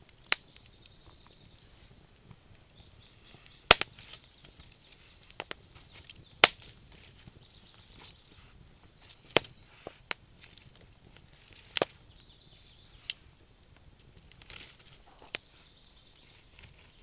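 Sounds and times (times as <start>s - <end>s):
campfire crackling and popping: 0.0s - 17.0s
faint steady hiss: 0.0s - 17.0s.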